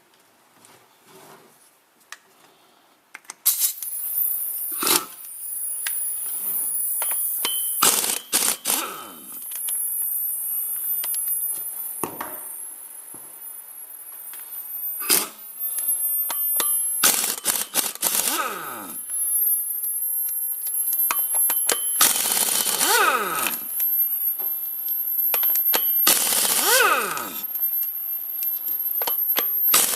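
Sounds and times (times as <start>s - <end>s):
steady high hiss: 3.5s - 29.9s.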